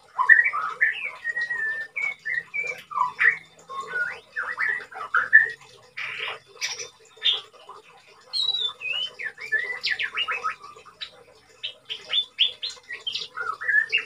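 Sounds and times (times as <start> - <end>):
bird singing whistled notes: 0.2 - 7.5, 8.3 - 14.0.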